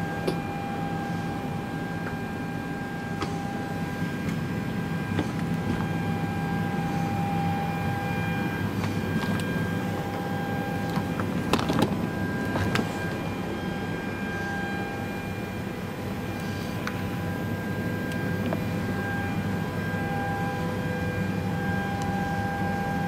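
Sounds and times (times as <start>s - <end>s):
aircraft cabin systems hum: 0.0s - 23.0s
thin steady whine: 0.0s - 23.0s.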